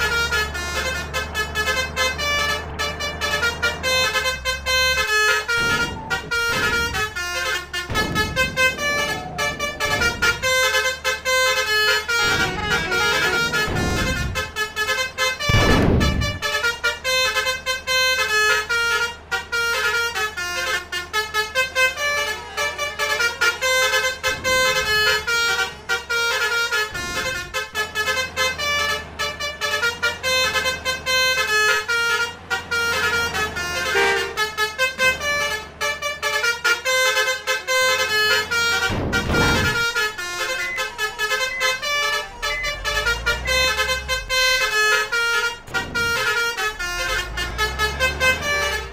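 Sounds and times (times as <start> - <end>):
musical air horns: 0.0 - 48.9
vehicles passing by: 0.0 - 48.9.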